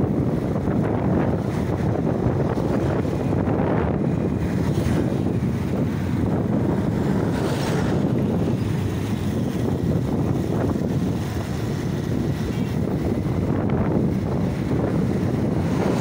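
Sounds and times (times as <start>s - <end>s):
wind rushing over microphone: 0.0s - 16.0s
large vehicle passing: 1.9s - 16.0s.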